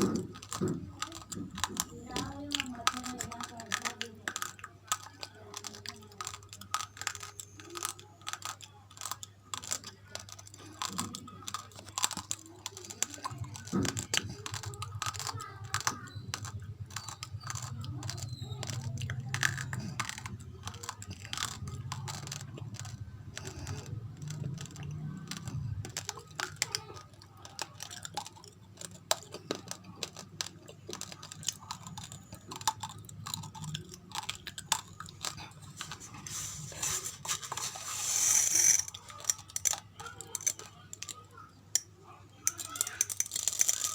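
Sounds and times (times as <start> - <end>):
crunching raw rice grains: 0.0 - 43.9.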